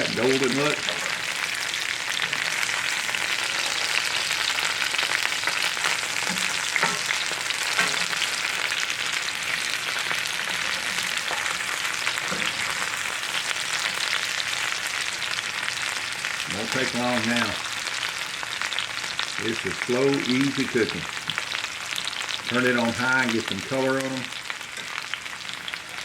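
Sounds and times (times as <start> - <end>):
potatoes sizzling in oil: 0.0 - 26.0.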